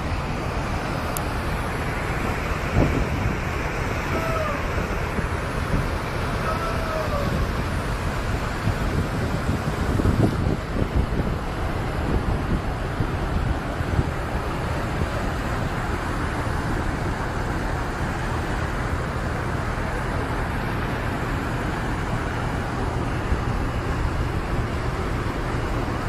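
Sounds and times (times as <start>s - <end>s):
floodwater rushing: 0.0s - 26.0s
wind buffeting microphone: 0.0s - 26.0s.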